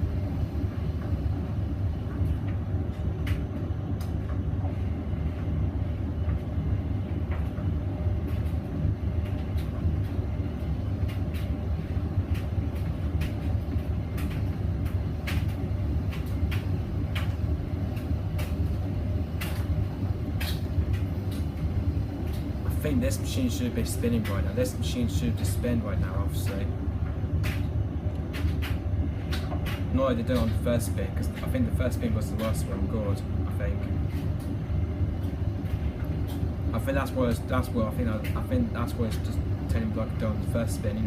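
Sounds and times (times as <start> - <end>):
washing machine rumbling: 0.0 - 41.0.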